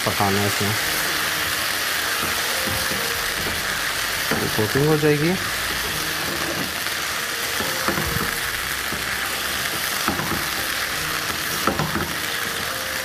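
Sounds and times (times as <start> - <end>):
meatballs sizzling in a pan: 0.0 - 13.0
spoon scraping a pan: 1.0 - 3.6, 4.3 - 12.7.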